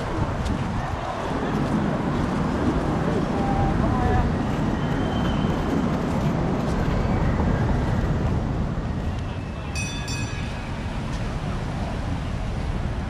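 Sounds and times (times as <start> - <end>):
murmur of distant voices: 0.0 - 13.0
wind rumble on microphone: 0.0 - 13.0.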